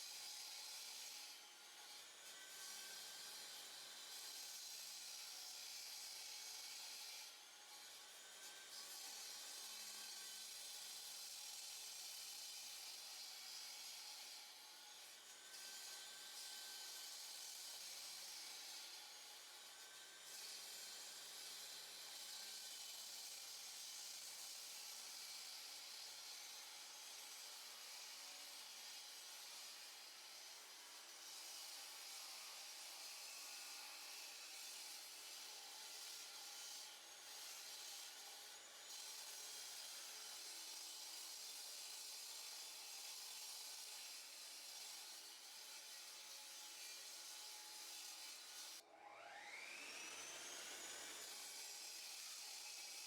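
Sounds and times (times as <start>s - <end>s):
power saw cutting concrete: 0.0s - 53.0s.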